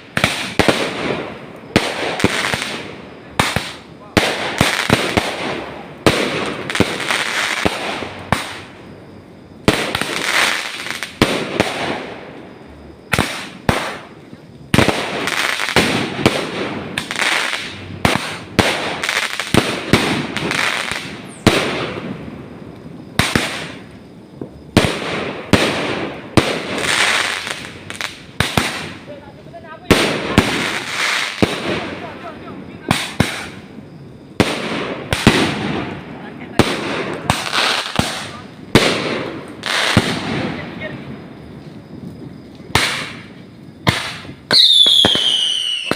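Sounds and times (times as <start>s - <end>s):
fireworks bangs: 0.0s - 45.9s
fireworks crackling hiss: 0.0s - 45.9s.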